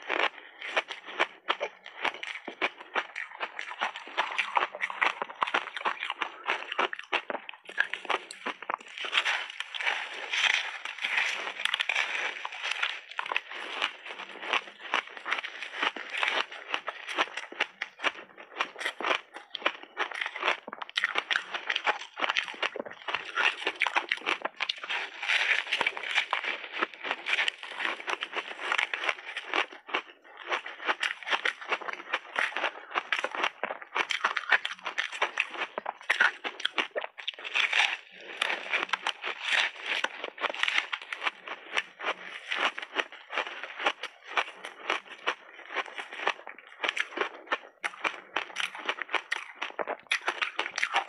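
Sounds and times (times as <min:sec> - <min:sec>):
crunching and chewing ice cake: 0:00.0 - 0:51.0.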